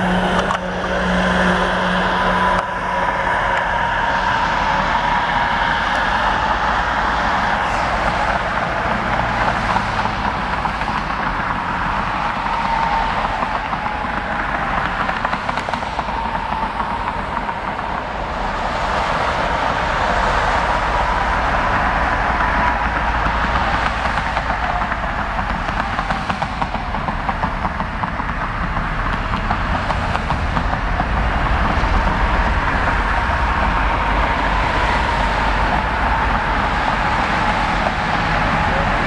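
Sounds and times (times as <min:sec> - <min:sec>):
road traffic passing: 0:00.0 - 0:39.0
thin steady whine: 0:00.0 - 0:39.0.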